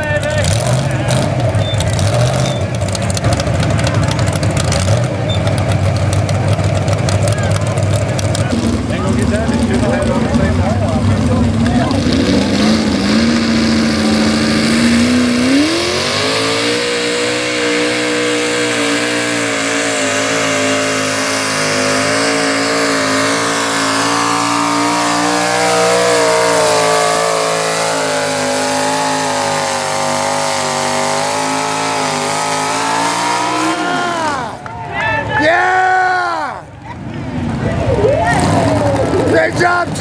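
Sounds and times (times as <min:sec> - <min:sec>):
truck engine revving high: 0:00.0 - 0:40.0.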